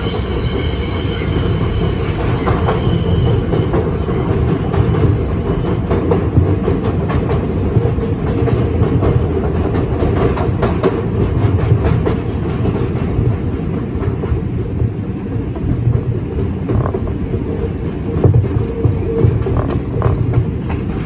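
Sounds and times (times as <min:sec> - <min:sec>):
subway wheels rumbling: 0:00.0 - 0:21.0.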